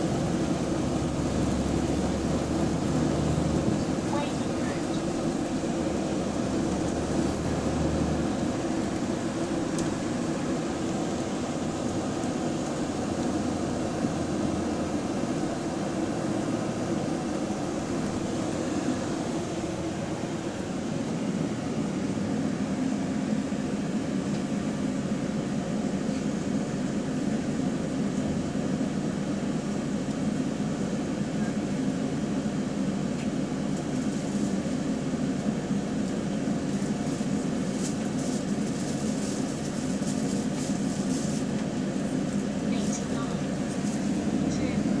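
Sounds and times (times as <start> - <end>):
bus engine droning: 0.0 - 45.0.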